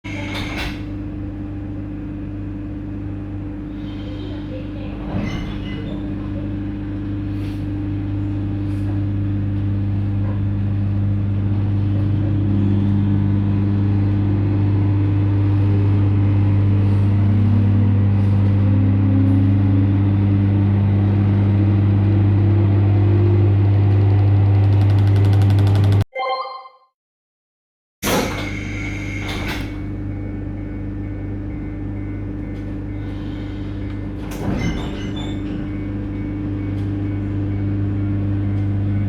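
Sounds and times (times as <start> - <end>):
electric train low hum: 0.1 - 26.0, 28.0 - 39.0.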